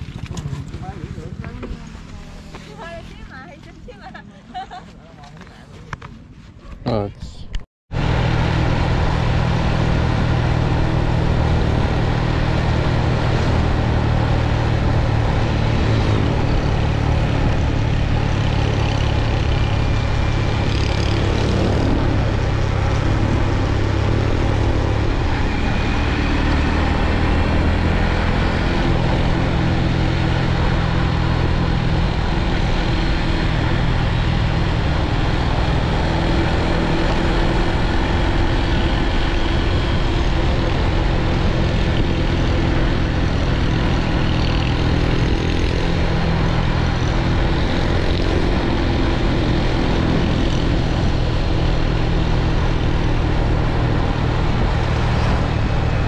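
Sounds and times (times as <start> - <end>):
motorbike engine running: 8.0 - 56.0.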